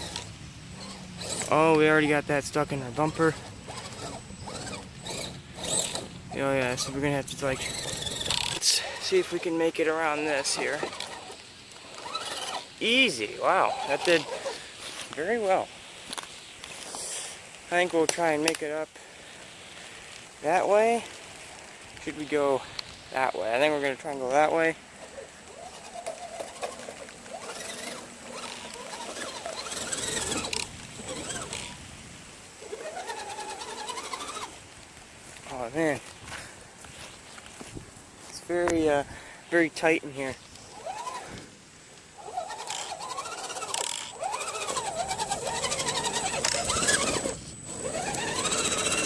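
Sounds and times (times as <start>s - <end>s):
electric motor and gears whining: 0.0s - 17.0s, 21.5s - 31.9s, 32.5s - 36.2s, 39.8s - 49.0s
tyres crackling over sticks: 0.0s - 49.0s.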